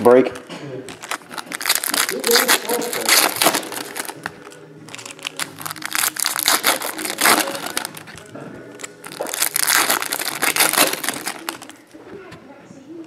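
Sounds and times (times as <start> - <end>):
foil wrappers crinkling: 0.0 - 12.0.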